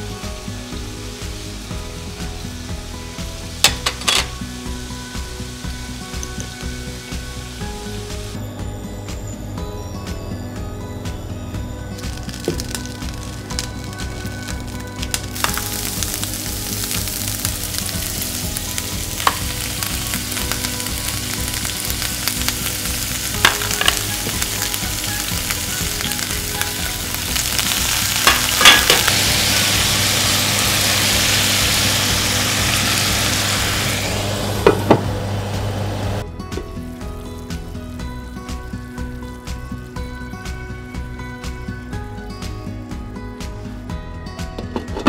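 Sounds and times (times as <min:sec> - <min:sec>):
food sizzling in hot oil: 0:00.0 - 0:08.4, 0:11.1 - 0:36.2, 0:36.8 - 0:41.1.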